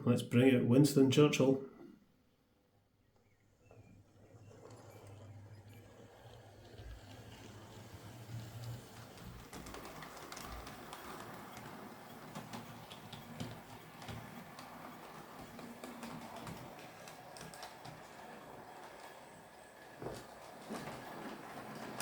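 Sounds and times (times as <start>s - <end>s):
wheels clicking over rails: 3.6s - 22.0s
model train running on track: 3.9s - 22.0s.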